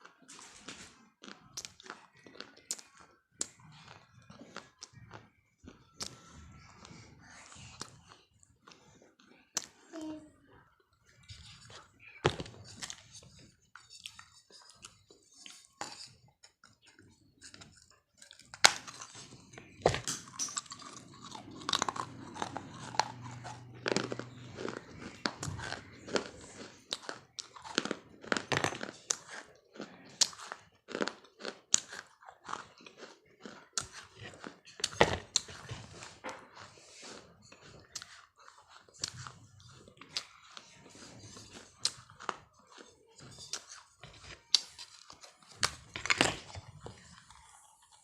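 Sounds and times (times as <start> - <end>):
person chewing crunchy food: 0.0 - 9.9, 11.0 - 48.0.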